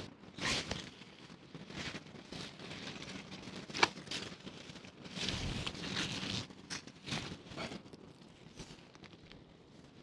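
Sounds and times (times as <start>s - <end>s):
fabric sail rustling and crackling: 0.0s - 10.0s.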